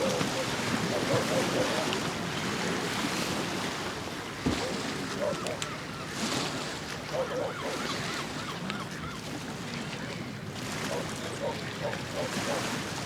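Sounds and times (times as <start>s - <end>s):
waterfront ambience: 0.0s - 13.0s.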